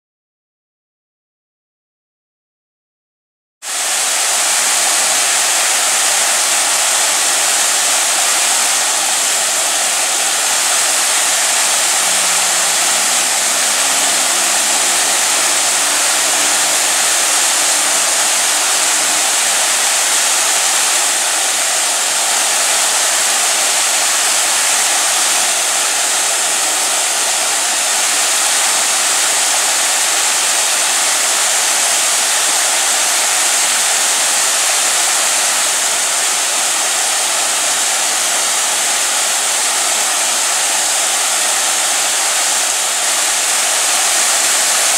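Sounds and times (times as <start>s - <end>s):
waterfall rushing over rocks: 3.7s - 44.9s.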